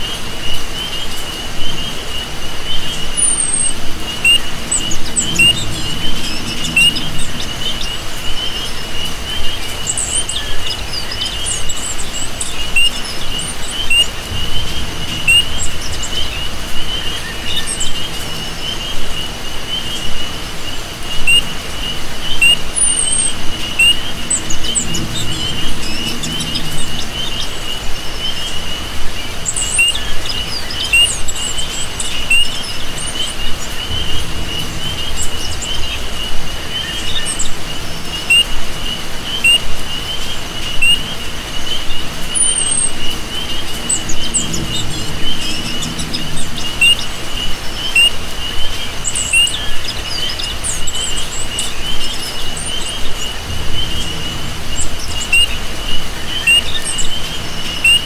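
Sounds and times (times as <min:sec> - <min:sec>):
bird chirps: 0:00.0 - 0:58.0
crickets chirring: 0:00.0 - 0:58.0
frogs calling: 0:00.0 - 0:58.0
rain hissing: 0:00.0 - 0:58.0.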